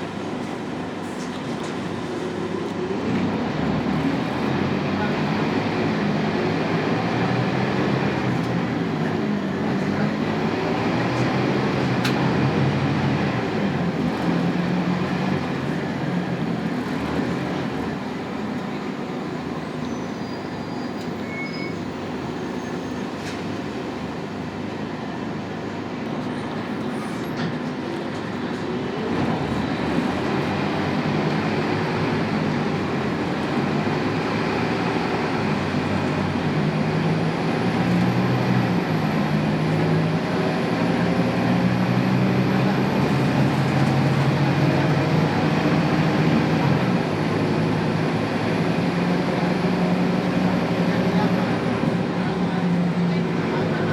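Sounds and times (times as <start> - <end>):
bus diesel engine drone: 0.0 - 53.9
road rumble: 0.0 - 53.9.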